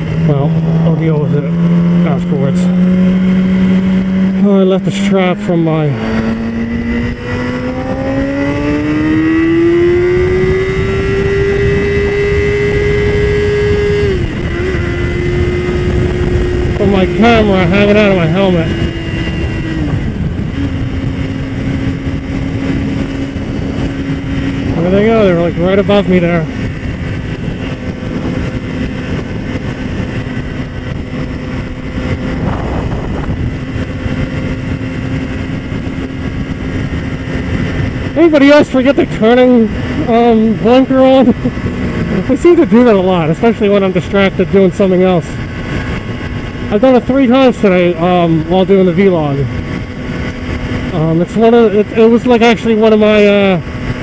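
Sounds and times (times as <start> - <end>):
motorcycle engine accelerating: 0.0 - 54.0
wind rushing over microphone: 0.0 - 54.0.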